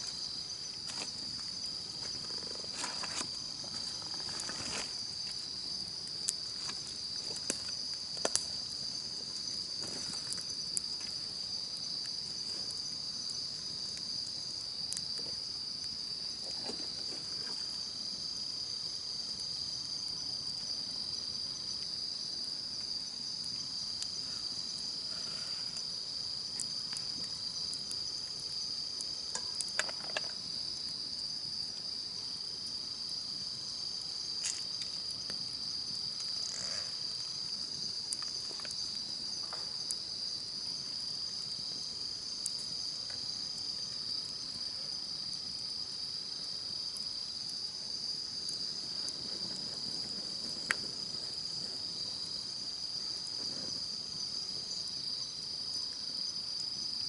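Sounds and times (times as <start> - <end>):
campfire popping and crackling: 0.0 - 56.2
insects trilling: 0.0 - 57.0.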